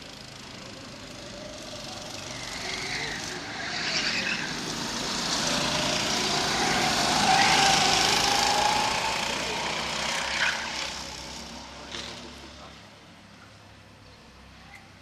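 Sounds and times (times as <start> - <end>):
go-kart engines running: 0.0 - 13.3.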